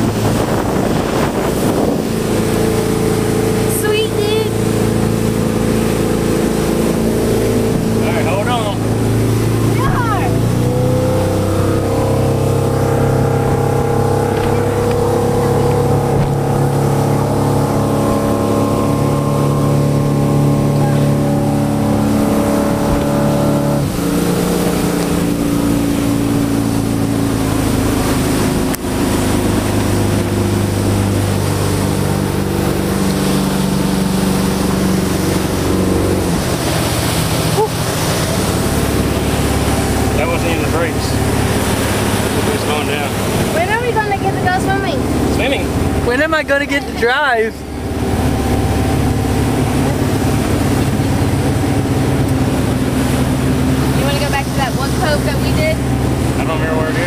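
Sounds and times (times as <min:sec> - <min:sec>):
motorboat engine drone: 0:00.0 - 0:57.0
water rushing off hull: 0:00.0 - 0:57.0.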